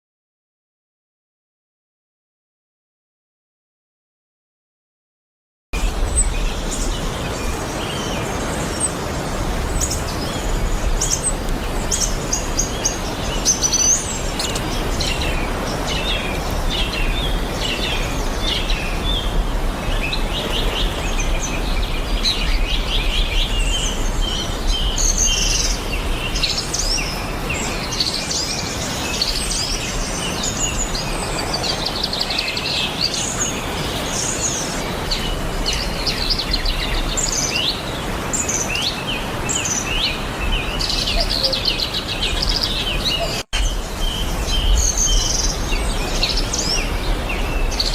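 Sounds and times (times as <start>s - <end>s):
small birds chirping and trilling: 5.8s - 47.9s.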